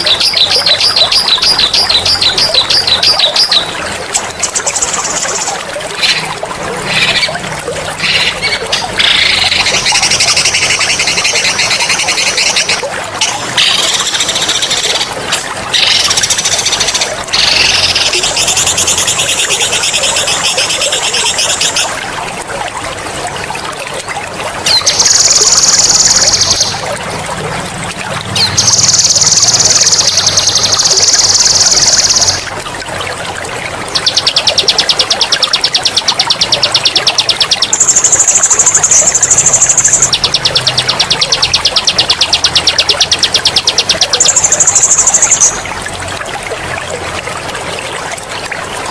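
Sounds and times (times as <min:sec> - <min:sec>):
trickle of running water: 0:00.0 - 0:48.9.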